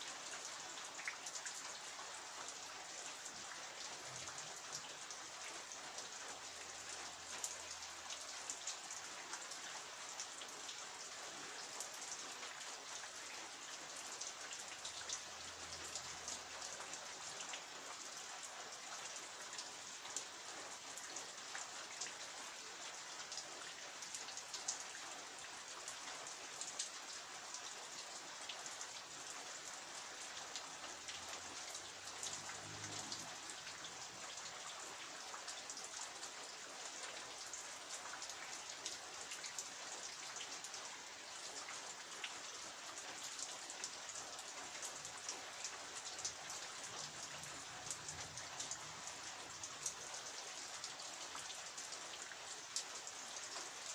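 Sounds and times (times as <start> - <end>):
rain falling: 0.0 - 53.9
raindrops ticking on surfaces: 0.0 - 53.9.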